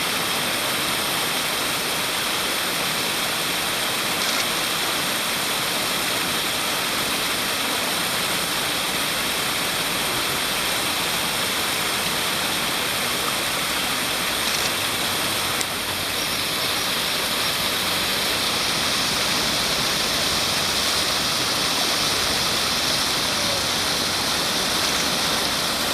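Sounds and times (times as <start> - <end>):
water rushing: 0.0 - 25.9.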